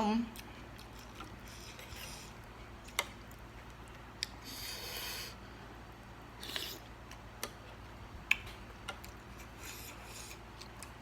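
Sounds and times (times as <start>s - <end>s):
person eating close-up: 0.3s - 11.0s.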